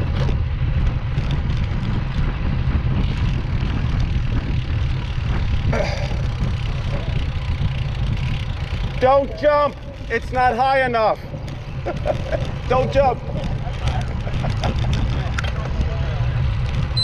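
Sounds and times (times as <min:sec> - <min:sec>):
motorcycle engine rumble: 0:00.0 - 0:17.0
wind noise on microphone: 0:00.0 - 0:17.0.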